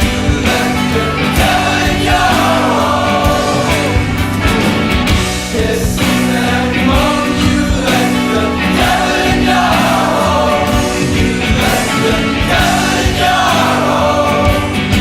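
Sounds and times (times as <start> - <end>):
song with backing vocals: 0.0 - 15.0.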